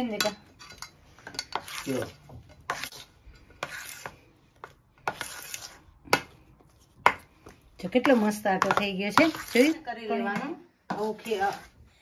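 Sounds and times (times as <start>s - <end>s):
utensil scraping steel bowl: 0.0s - 11.9s.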